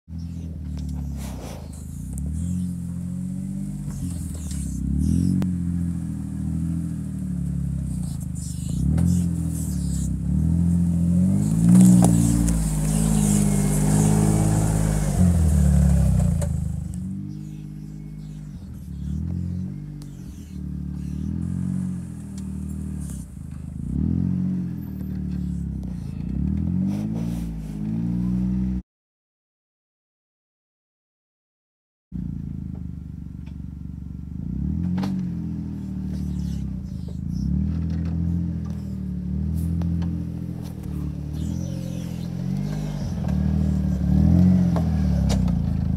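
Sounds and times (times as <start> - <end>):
utility vehicle engine revving: 0.1 - 28.8, 32.2 - 45.9.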